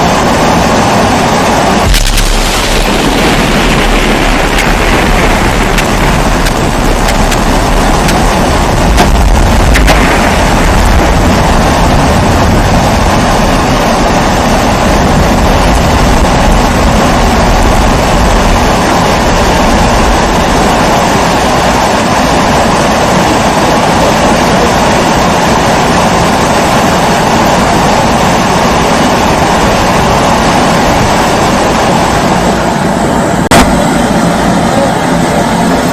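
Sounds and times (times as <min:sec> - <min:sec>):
kerosene stove burner roaring: 0:00.0 - 0:35.9.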